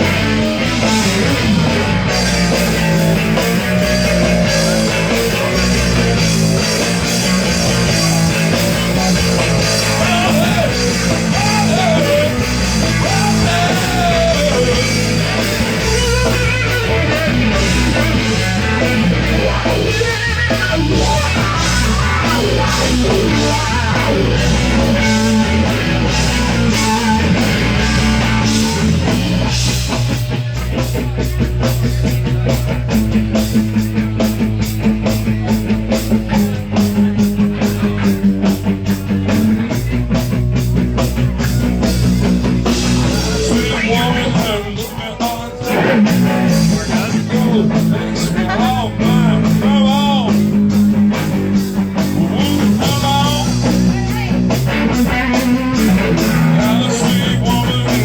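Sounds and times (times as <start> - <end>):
electric guitar lead bending notes: 0.0 - 58.0
rock band playing: 0.0 - 58.0.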